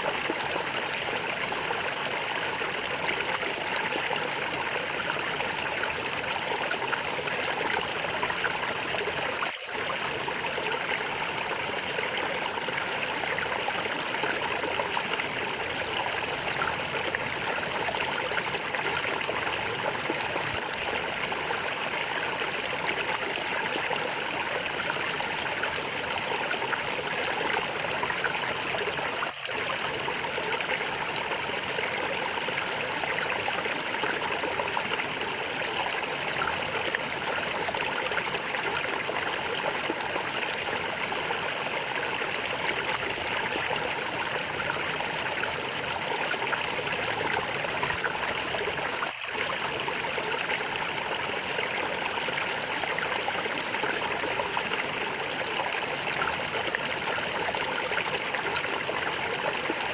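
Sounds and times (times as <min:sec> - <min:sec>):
stream water gurgling: 0:00.0 - 0:59.9.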